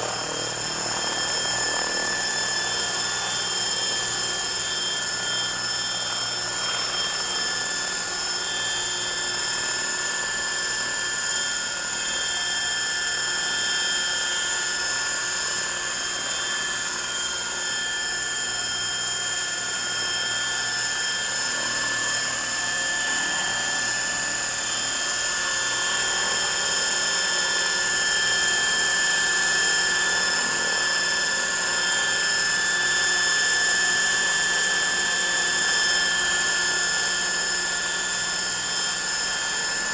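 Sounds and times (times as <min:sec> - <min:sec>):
rc helicopter whining: 0:00.0 - 0:39.9.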